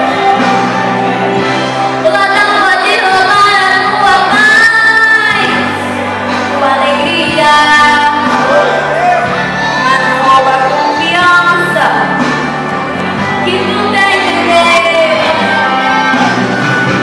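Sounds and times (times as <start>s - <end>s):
electric guitar chords: 0.0s - 17.0s.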